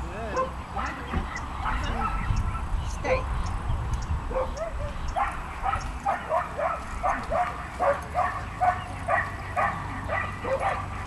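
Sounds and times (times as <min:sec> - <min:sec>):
dog yipping: 0:00.3 - 0:02.7, 0:04.3 - 0:11.0.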